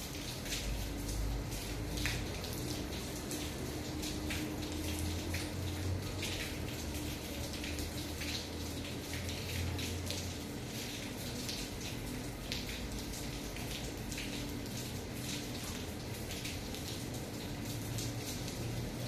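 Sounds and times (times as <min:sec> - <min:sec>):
light rain dripping: 0:00.0 - 0:19.0.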